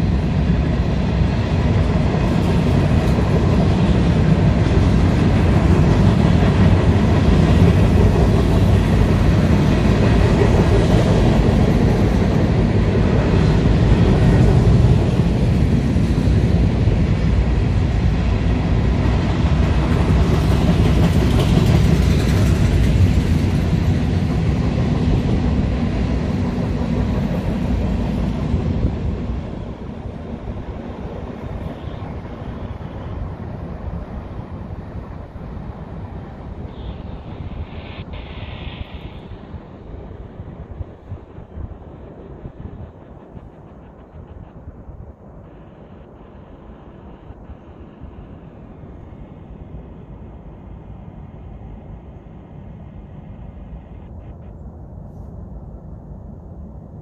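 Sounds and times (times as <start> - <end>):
freight train wheels rumbling: 0.0 - 53.7.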